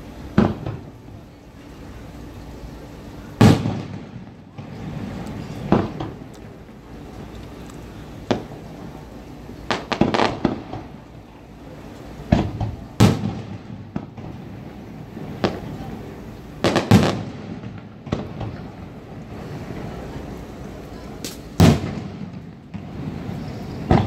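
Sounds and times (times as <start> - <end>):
fireworks bursting with bangs: 0.0 - 1.4, 3.2 - 24.0.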